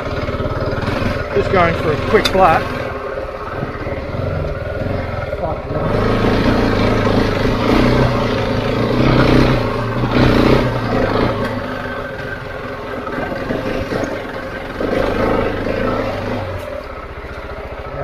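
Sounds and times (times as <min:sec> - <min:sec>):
motorcycle engine running under load: 0:00.0 - 0:18.0.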